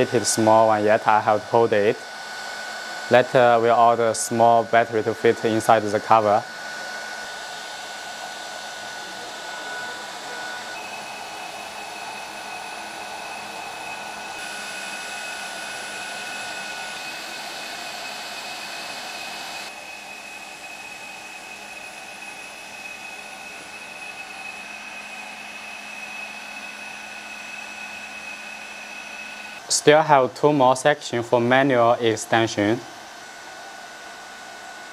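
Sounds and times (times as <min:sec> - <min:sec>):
hydraulic pump whining hum: 0:00.0 - 0:30.4.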